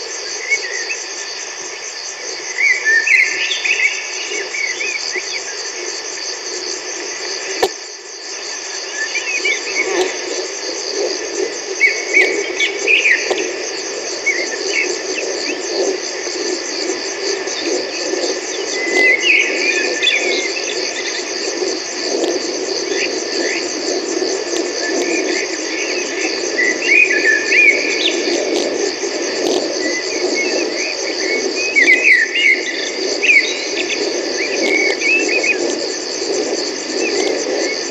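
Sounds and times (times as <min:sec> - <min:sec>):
crickets chirping: 0:00.0 - 0:37.9.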